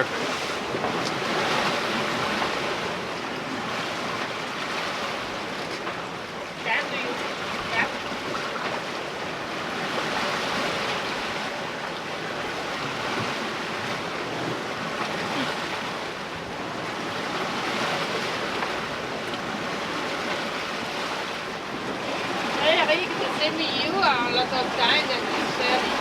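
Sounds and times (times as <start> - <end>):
water splashing along boat hull: 0.0 - 26.0.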